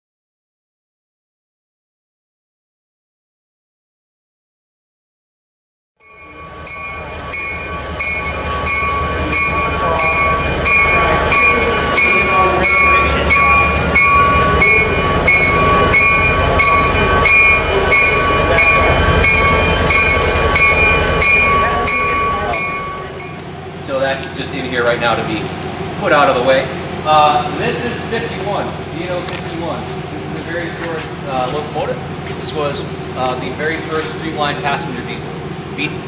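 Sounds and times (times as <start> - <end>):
locomotive bell ringing: 6.0 - 36.0
locomotive rumbling: 6.1 - 36.0.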